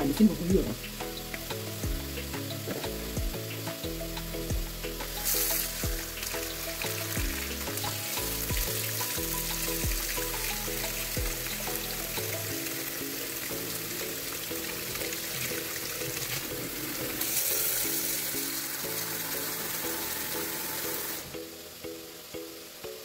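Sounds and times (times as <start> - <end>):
background music with beat: 0.0 - 23.0
vegetables sizzling in a pot: 0.0 - 23.0.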